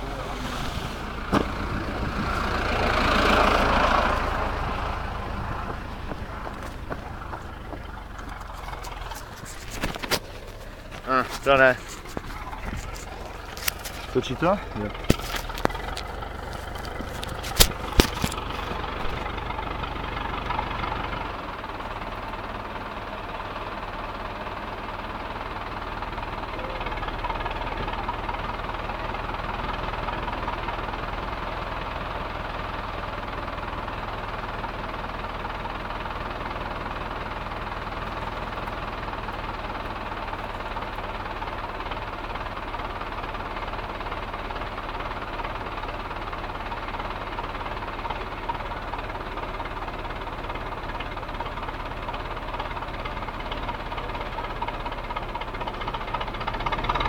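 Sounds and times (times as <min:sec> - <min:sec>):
engine humming with rattle: 0:00.0 - 0:57.0.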